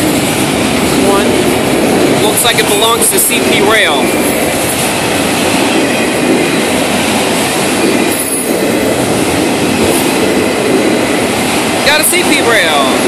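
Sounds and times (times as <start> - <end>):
freight train wheels rumbling and rattling: 0.0 - 13.0.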